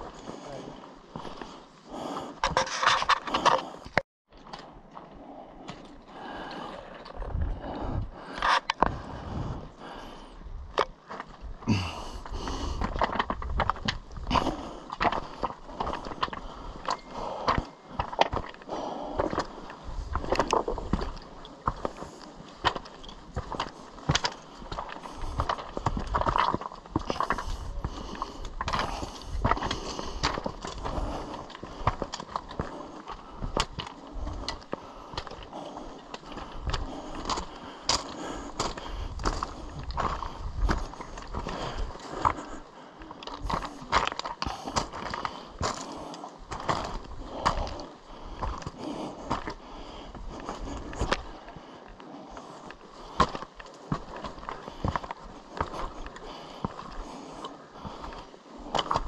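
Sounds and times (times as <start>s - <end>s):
footsteps on stony ground: 0.0s - 59.0s.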